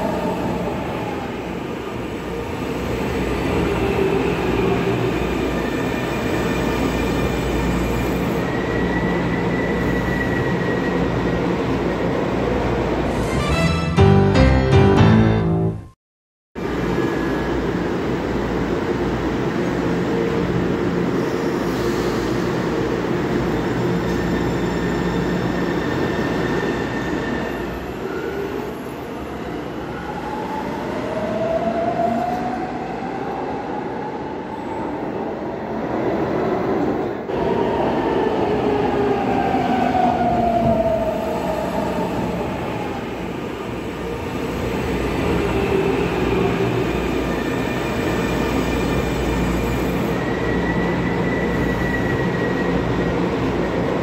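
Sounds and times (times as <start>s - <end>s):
subway train rumbling: 0.0s - 15.9s, 16.6s - 54.0s.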